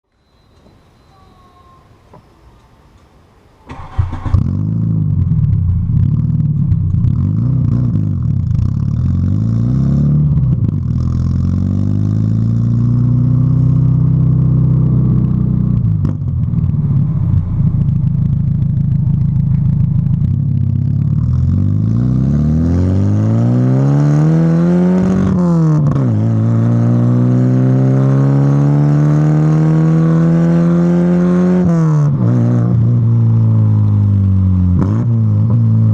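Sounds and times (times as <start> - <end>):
car engine starting: 3.6 - 35.9
car engine idling and revving: 3.7 - 35.9.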